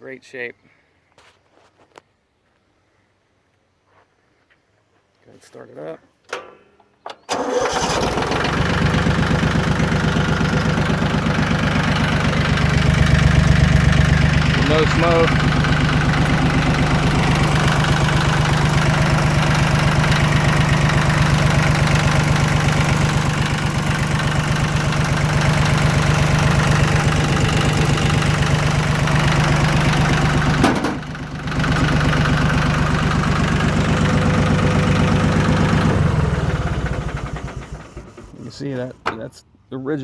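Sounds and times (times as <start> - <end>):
diesel tractor engine idling: 7.3 - 39.3.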